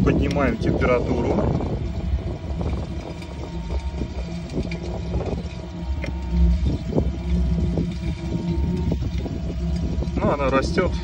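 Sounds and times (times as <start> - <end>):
boiler burner rumbling: 0.0 - 11.0.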